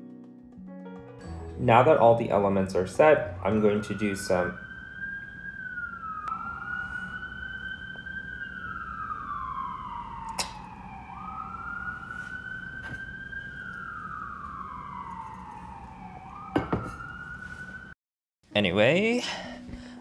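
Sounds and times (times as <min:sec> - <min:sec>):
emergency vehicle siren wailing: 0:01.8 - 0:18.0.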